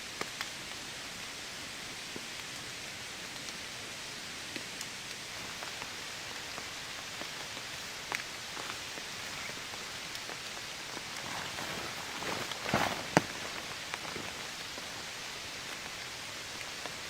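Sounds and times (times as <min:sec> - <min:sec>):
raindrops ticking nearby: 0:00.0 - 0:17.0
steady rain falling: 0:00.0 - 0:17.0.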